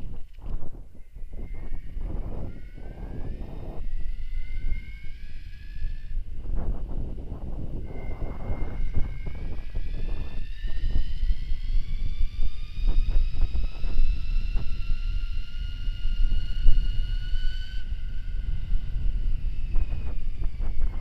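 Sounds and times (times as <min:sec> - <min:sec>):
electric bike motor whining: 0:00.0 - 0:21.0
wind rumble on microphone: 0:00.0 - 0:21.0.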